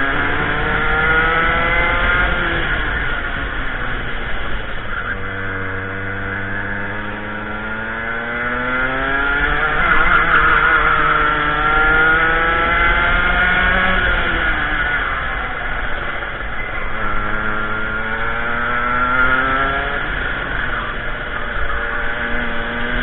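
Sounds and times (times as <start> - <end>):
kart engine revving: 0.0 - 23.0.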